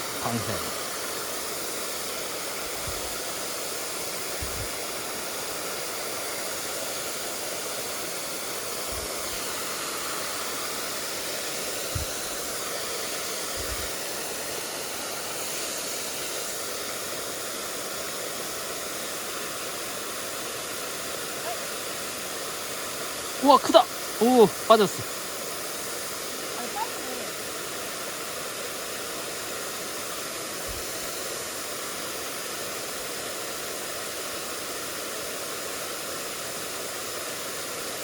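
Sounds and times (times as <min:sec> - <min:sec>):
stream water rushing: 0:00.0 - 0:38.0.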